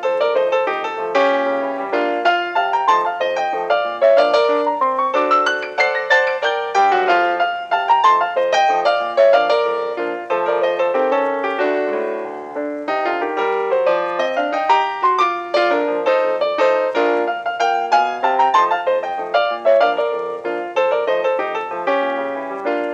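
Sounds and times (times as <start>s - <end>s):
solo piano music: 0.0s - 22.9s.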